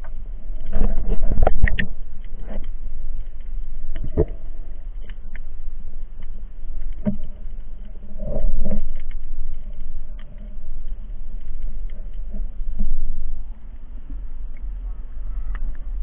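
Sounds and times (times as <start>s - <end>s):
muffled underwater rumble: 0.0s - 16.0s.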